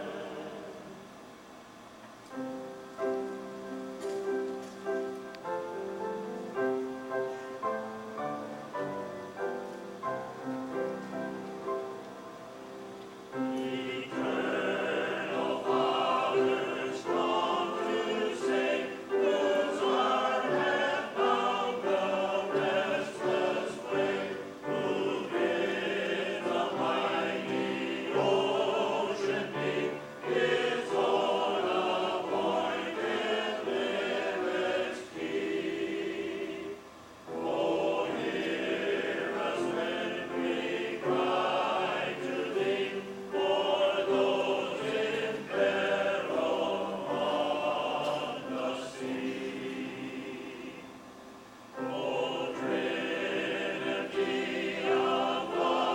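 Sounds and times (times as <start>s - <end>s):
choir singing a hymn: 0.0s - 1.4s, 2.4s - 55.9s.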